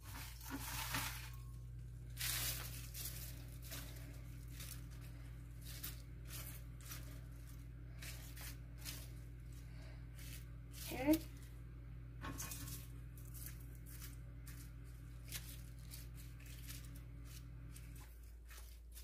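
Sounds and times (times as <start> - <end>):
salad leaves rustling: 0.0 - 11.7, 12.3 - 19.0
low steady hum: 0.0 - 19.0.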